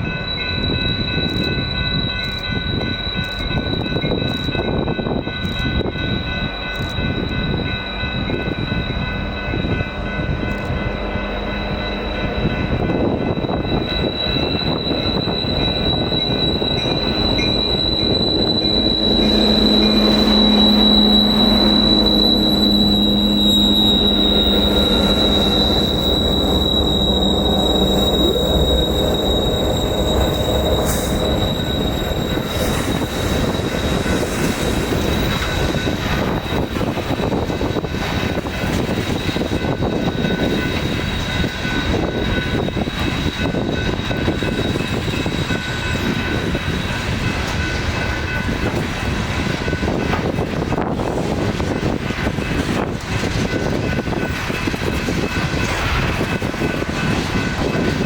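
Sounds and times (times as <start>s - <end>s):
diesel locomotive drone: 0.0s - 58.0s
high wheel squeal: 0.0s - 58.0s
train wheels rolling on rails: 0.0s - 58.0s.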